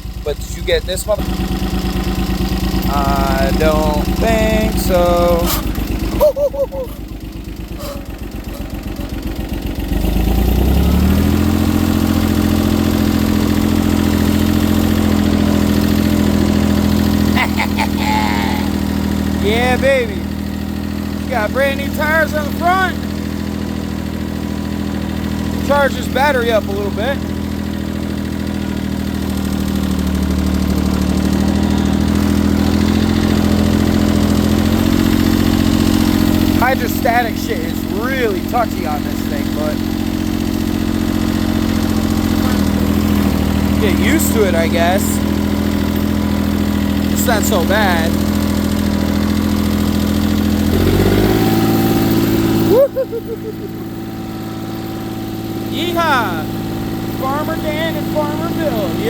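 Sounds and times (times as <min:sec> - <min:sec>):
diesel tractor engine starting: 0:00.0 - 0:59.0.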